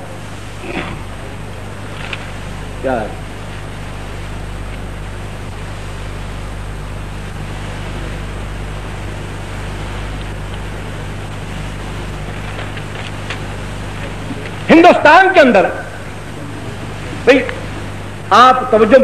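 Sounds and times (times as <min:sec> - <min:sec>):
low electrical hum: 0:00.0 - 0:19.0
steady hiss: 0:00.0 - 0:19.0.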